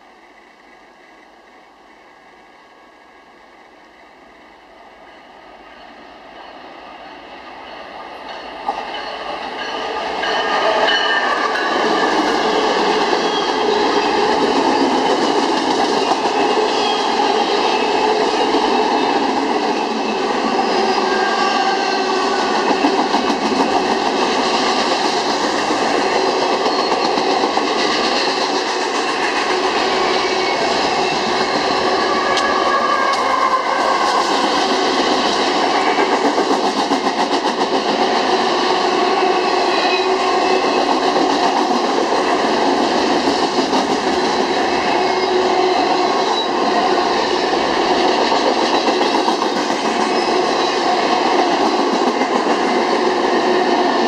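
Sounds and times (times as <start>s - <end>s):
freight train passing: 0.0s - 54.0s
steel wheels rushing on rails: 0.0s - 54.0s.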